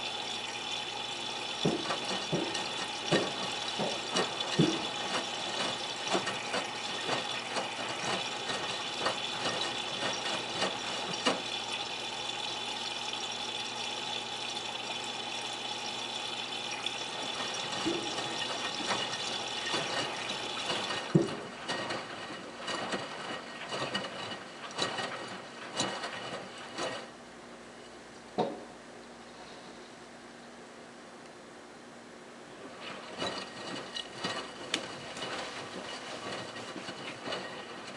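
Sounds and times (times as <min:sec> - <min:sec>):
water spraying into washing machine: 0:00.0 - 0:27.2, 0:32.6 - 0:37.9
wet laundry tumbling in drum: 0:00.0 - 0:27.5, 0:32.6 - 0:37.9.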